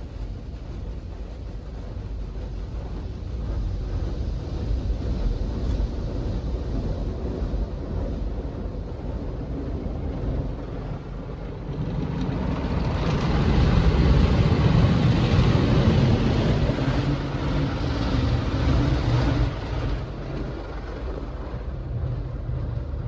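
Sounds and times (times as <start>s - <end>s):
car wash rushing water: 0.0s - 23.0s.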